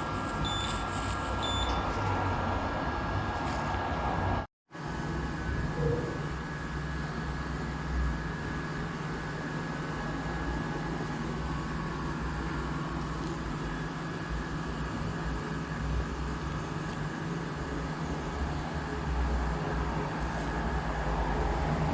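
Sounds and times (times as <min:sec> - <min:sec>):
mechanical hum with faint whine: 0:00.0 - 0:21.9.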